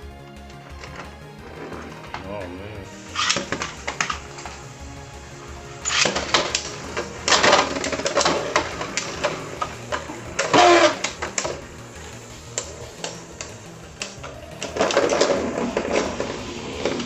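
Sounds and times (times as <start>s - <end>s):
spinning tops clicking and knocking: 2.9s - 17.0s
spinning tops grinding scrape: 2.9s - 17.0s.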